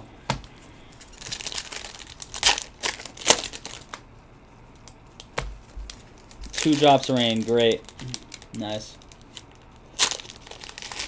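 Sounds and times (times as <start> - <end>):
card wrappers crinkling and tearing: 0.9 - 4.1, 4.7 - 11.0.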